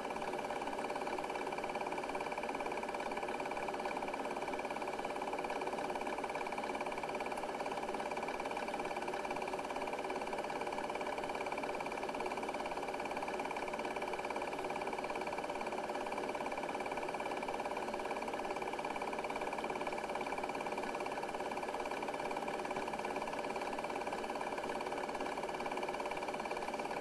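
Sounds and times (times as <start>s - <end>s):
film projector whirring: 0.0s - 27.0s.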